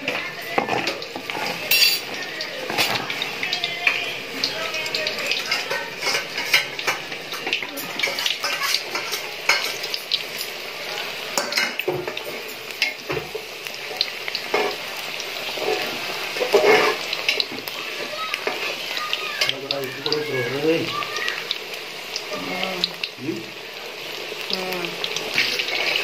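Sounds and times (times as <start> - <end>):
deep-frying oil sizzling: 0.0 - 26.0.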